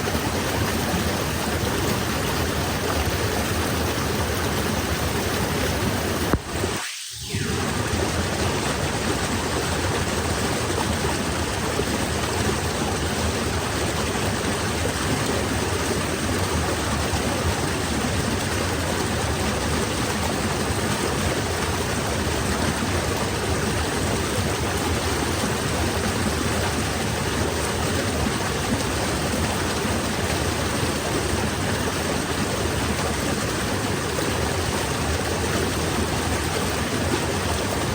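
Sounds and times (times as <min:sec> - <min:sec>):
falling water rushing: 0:00.0 - 0:37.9.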